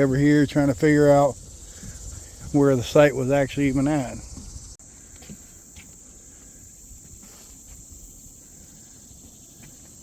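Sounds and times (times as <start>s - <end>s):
crickets chirping chorus: 0.0s - 10.0s.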